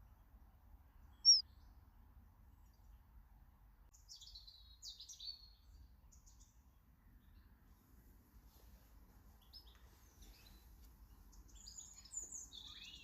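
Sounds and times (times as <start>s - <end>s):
songbirds chirping and twittering: 0.9s - 13.0s.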